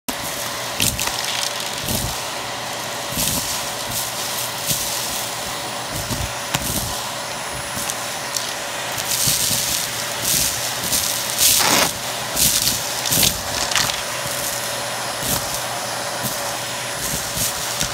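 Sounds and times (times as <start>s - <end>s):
debris rattling up hose: 0.1s - 17.9s
vacuum cleaner motor whine: 0.1s - 17.9s.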